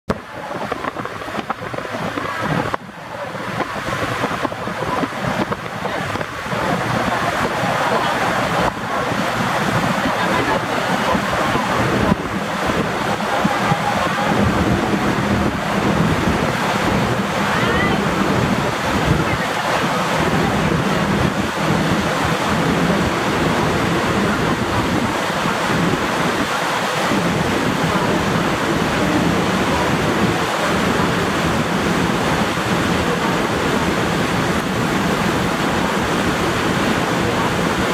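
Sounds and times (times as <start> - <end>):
boat wake and spray rushing: 0.1 - 37.9
wind buffeting microphone: 0.1 - 37.9.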